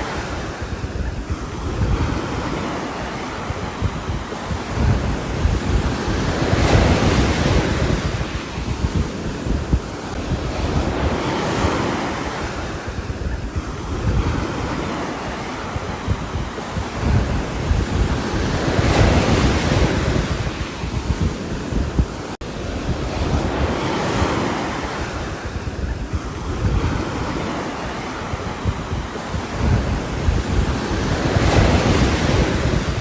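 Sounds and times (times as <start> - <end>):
wind and water rushing: 0.0 - 33.0
wind buffeting microphone: 0.0 - 33.0.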